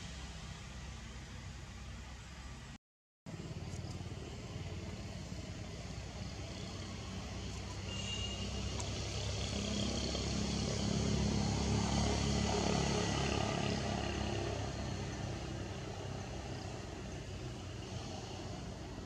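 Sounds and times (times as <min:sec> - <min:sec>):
vehicle engine passing by: 0:03.3 - 0:19.0.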